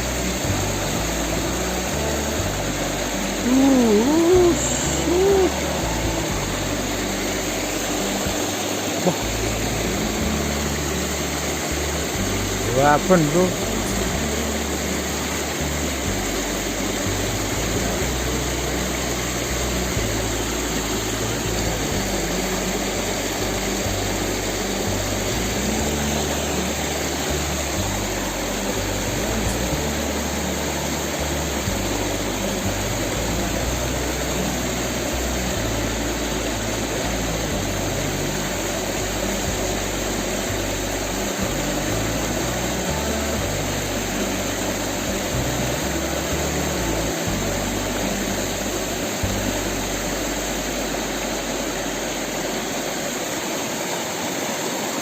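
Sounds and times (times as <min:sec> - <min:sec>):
background music: 0:00.0 - 0:53.0
river water flowing: 0:00.0 - 0:55.0.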